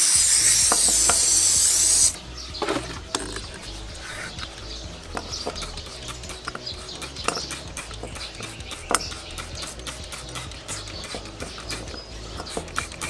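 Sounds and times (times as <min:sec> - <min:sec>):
background music with bass: 0:00.0 - 0:13.0
small metal parts clicking: 0:00.2 - 0:03.7, 0:04.3 - 0:13.0.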